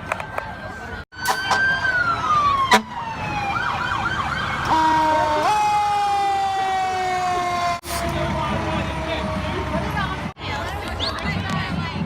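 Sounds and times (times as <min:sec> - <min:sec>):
electronic sirens wailing: 0:00.2 - 0:10.3.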